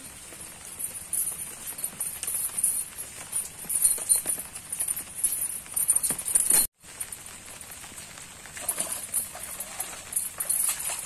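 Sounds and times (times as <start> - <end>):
metal chain clinking and jangling: 0.0 - 7.2, 8.6 - 11.0.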